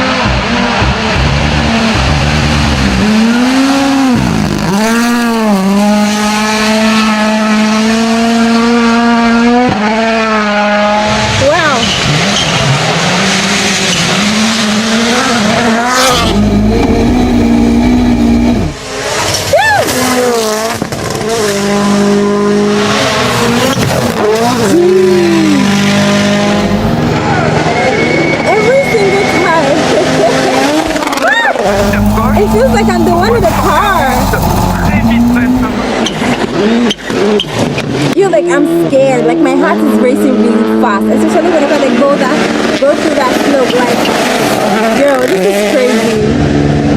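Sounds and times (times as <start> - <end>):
rally car engine revving hard: 0.0 - 46.9.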